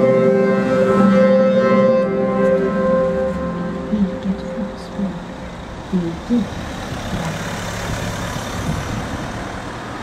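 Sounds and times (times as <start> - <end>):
car driving past: 0.0 - 10.0.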